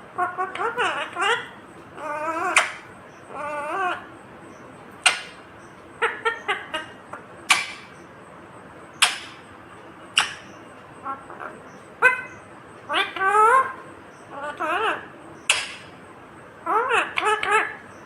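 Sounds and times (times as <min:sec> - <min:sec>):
parakeet squawking and chattering: 0:00.2 - 0:04.2, 0:05.0 - 0:08.1, 0:08.9 - 0:16.0, 0:16.6 - 0:18.0.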